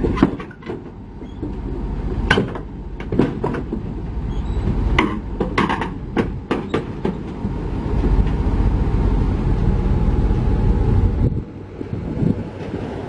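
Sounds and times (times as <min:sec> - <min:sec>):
diesel construction machinery rumble: 0:00.0 - 0:13.0.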